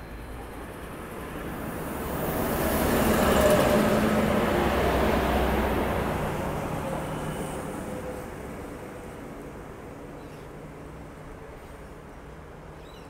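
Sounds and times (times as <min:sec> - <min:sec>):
train passing: 0:00.0 - 0:12.8.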